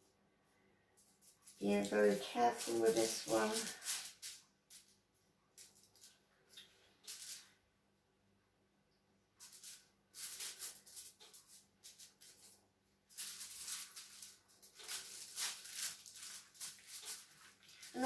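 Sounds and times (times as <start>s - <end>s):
rubber gloves rustling and hissing: 1.0s - 7.6s, 9.4s - 18.0s.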